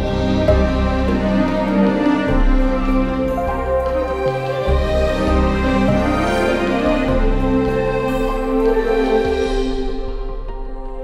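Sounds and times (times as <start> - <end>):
instrumental music with held chords: 0.0 - 11.0.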